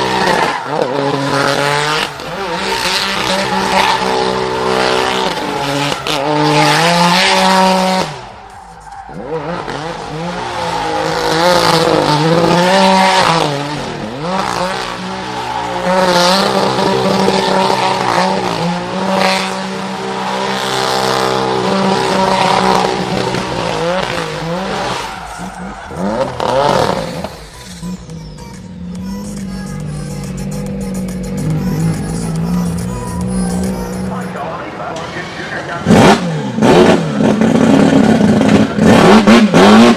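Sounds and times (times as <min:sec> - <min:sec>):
car engine revving hard: 0:00.0 - 0:28.0, 0:28.8 - 0:39.9
tyres screeching: 0:00.0 - 0:39.9.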